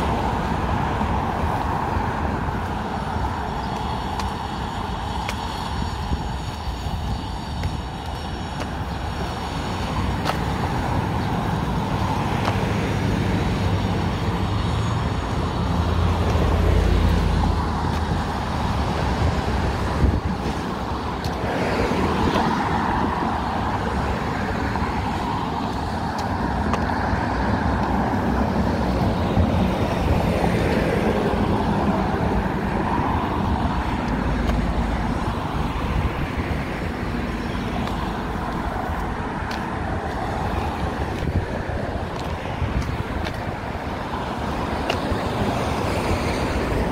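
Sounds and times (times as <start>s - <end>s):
cars passing: 0.0s - 46.9s.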